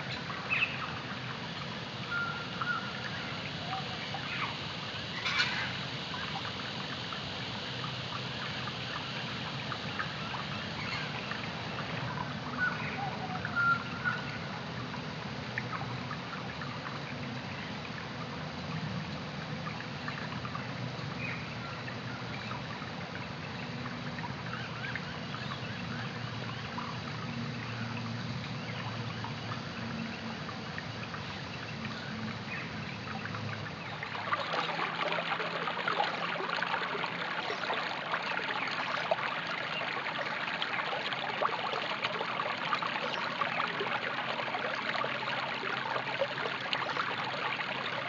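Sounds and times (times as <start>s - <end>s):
creek water trickling underwater: 0.0s - 48.0s.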